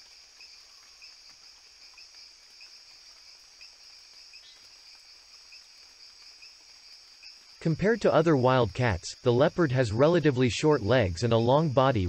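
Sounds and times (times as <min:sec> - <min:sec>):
faint insect chorus: 0:00.0 - 0:12.0.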